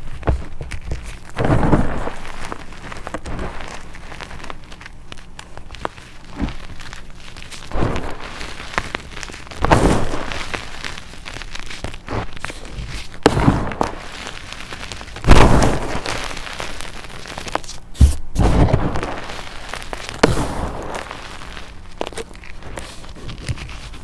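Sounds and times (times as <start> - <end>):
chalk being crushed by hand: 0.0 - 24.0.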